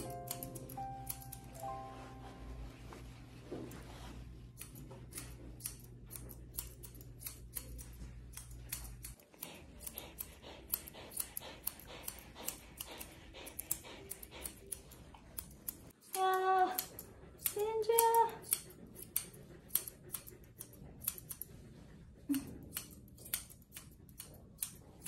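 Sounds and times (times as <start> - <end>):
scissors snipping fur: 0.0 - 2.0, 4.5 - 21.6, 22.3 - 25.0
low steady hum: 0.0 - 25.0.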